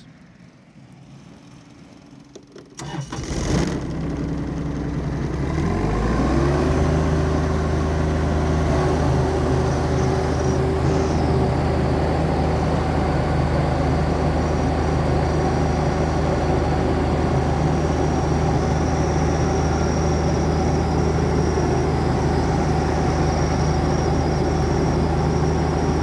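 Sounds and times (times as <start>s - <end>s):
diesel tractor engine idling: 1.4s - 26.0s.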